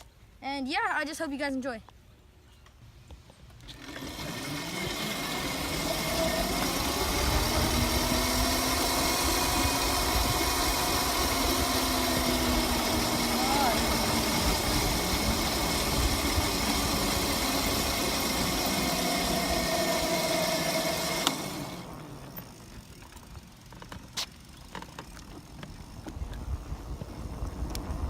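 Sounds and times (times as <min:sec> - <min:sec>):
dirt bike engine running: 0:03.6 - 0:28.0.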